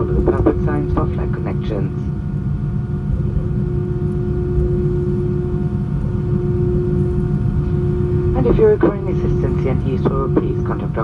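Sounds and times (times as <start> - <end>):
aircraft cabin rumble: 0.0 - 11.0
constant hum: 0.0 - 11.0.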